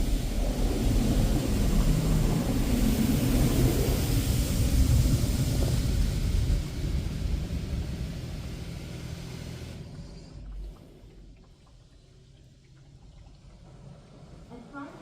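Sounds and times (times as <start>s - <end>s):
car wash machinery rushing: 0.0s - 11.4s, 13.4s - 15.0s.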